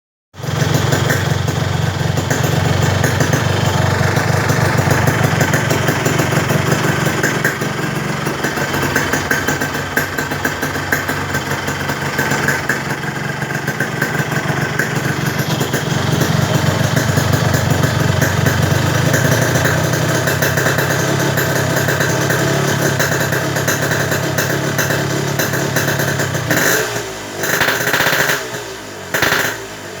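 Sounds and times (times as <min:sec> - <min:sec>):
motorcycle engine running: 0:00.4 - 0:30.0.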